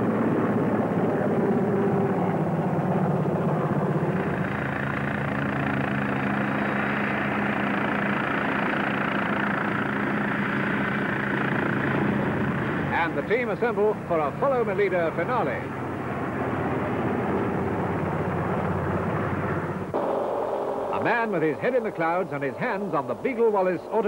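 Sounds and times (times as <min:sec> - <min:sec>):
helicopters flying past: 0:00.0 - 0:24.0.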